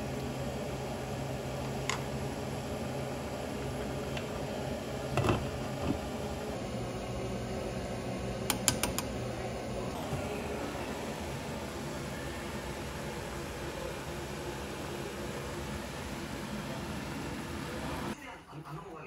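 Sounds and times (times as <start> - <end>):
motor humming: 0.0 - 18.2.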